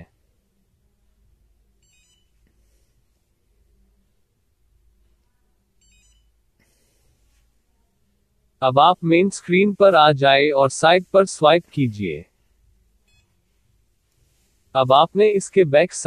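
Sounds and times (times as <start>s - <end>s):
faint electronic beeps: 0.0s - 16.0s.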